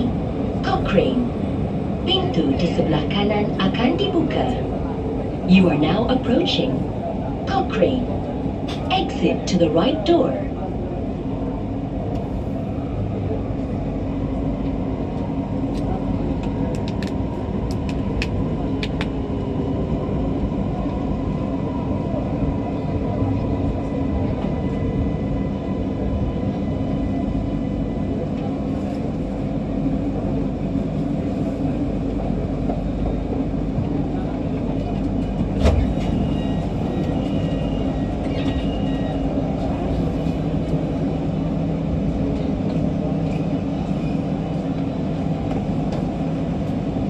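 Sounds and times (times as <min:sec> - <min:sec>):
train rumble: 0:00.0 - 0:47.0.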